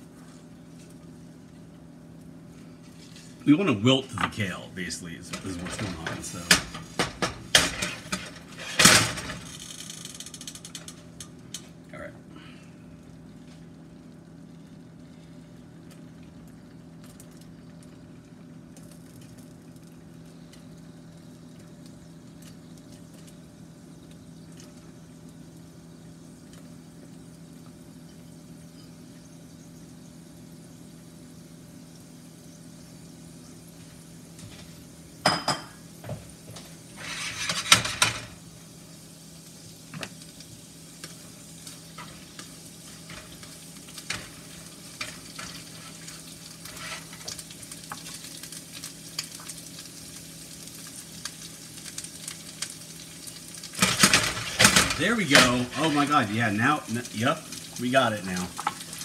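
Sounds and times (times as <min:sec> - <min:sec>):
eggs sizzling in a frying pan: 0:00.0 - 0:03.5, 0:04.2 - 0:59.0
steady low hum: 0:00.0 - 0:51.4.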